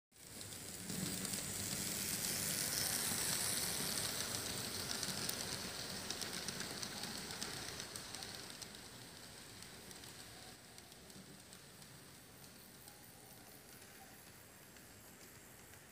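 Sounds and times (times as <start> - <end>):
model train wheels rattling on rails: 0.2 - 15.9.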